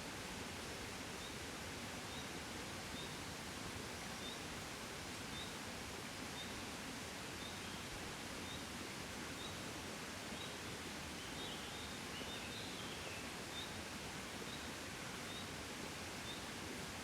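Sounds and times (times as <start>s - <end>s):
gentle wind: 0.0s - 17.0s.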